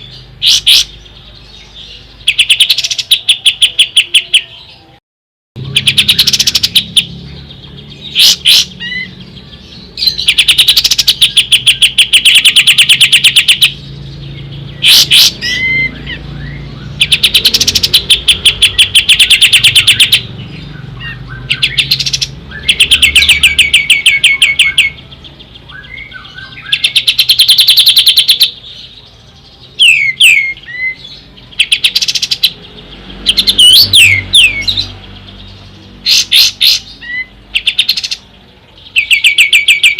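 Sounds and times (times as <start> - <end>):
bird singing trilled notes: 0.0 - 5.0, 5.6 - 39.9.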